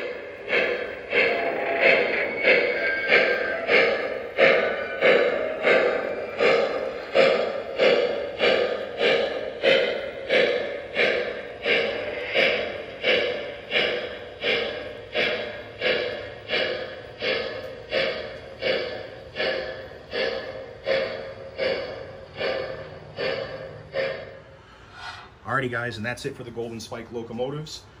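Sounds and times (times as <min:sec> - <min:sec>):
simulated steam locomotive chuffing: 0:00.0 - 0:28.0.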